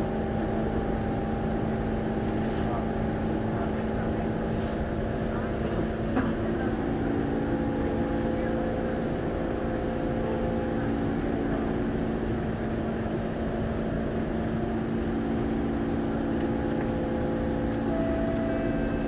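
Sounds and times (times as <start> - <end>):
train car interior hum: 0.0 - 19.0.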